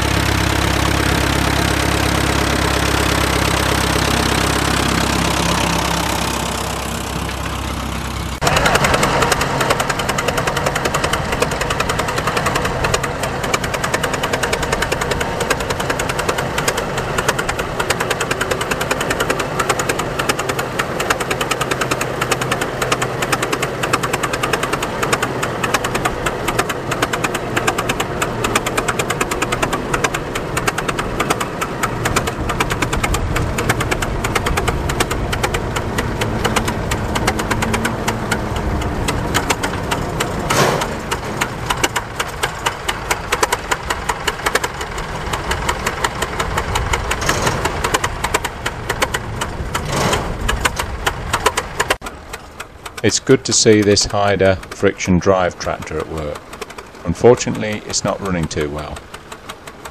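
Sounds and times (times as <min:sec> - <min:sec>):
quieter tractor engine: 0:00.0 - 0:59.9
tractor engine knocking: 0:00.0 - 0:59.9.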